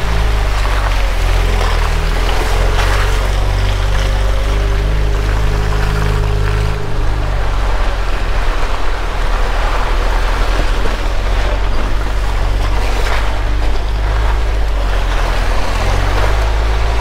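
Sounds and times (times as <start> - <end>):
car engine hum: 0.0 - 17.0
tyre and road rush: 0.0 - 17.0.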